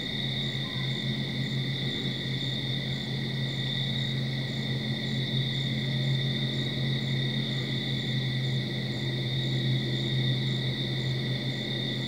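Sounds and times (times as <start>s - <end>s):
high insect chirp: 0.0s - 12.0s
insect trill: 0.0s - 12.0s.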